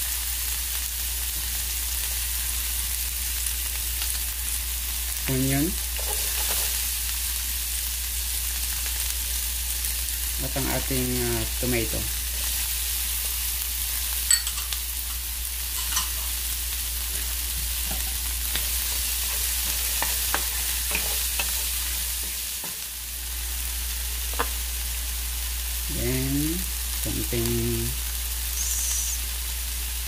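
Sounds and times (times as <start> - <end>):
vegetables sizzling in a frying pan: 0.0 - 30.0.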